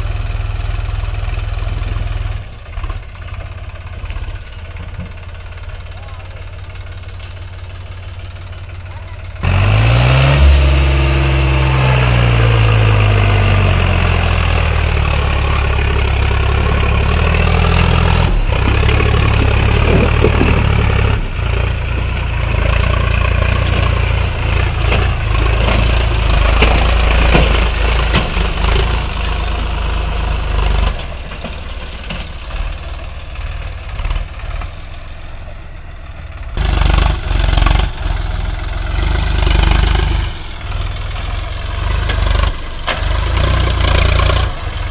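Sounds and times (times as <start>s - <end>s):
tractor diesel engine running hard: 0.0s - 44.9s.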